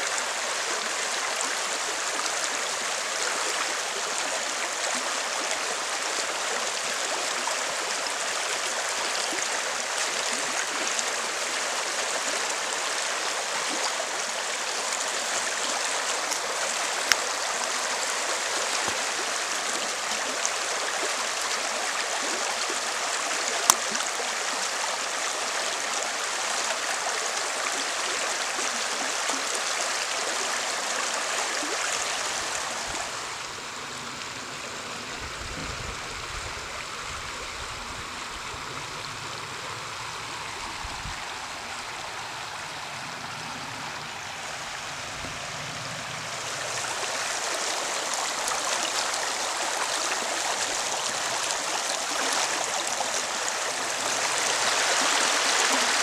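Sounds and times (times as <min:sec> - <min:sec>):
river water rushing over stones: 0:00.0 - 0:56.0.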